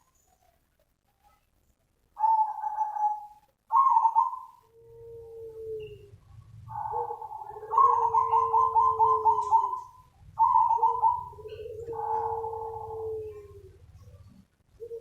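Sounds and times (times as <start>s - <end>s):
dove cooing: 2.2s - 15.0s.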